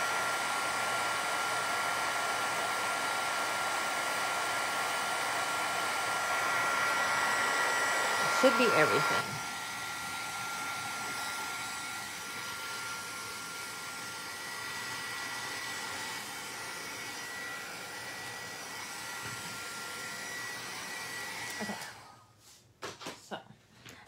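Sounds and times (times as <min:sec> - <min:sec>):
heat tool blowing with high whine: 0:00.0 - 0:22.1.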